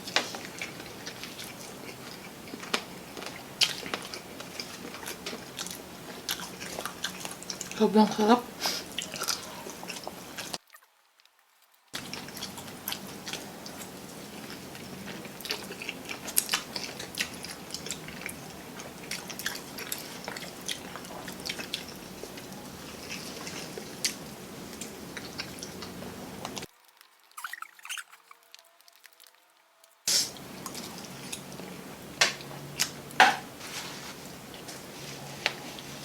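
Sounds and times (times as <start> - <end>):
people chewing and crunching food: 0.0 - 36.0.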